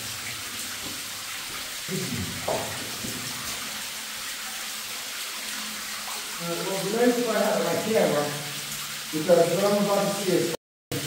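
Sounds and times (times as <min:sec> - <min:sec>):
water trickling over rock: 0:00.0 - 0:11.0.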